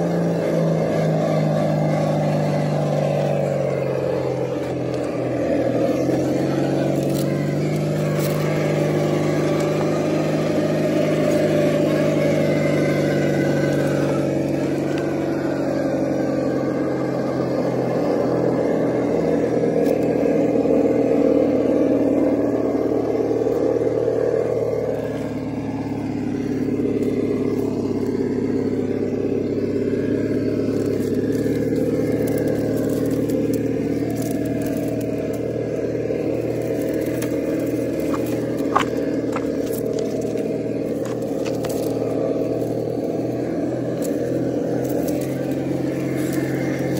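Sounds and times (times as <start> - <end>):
simulated truck engine revving: 0.0 - 46.9.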